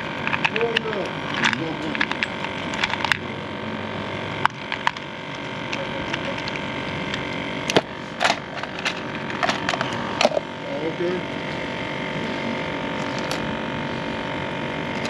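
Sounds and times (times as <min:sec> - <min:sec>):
background noise and hum: 0:00.0 - 0:15.0.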